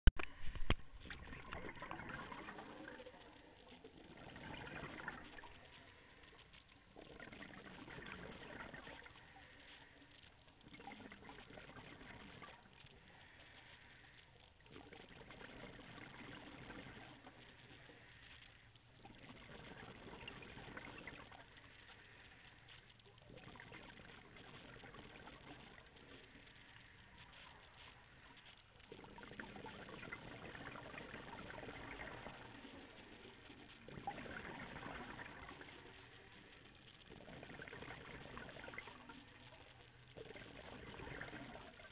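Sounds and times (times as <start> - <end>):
scuba breathing bubbles gurgling: 0.2 - 41.9.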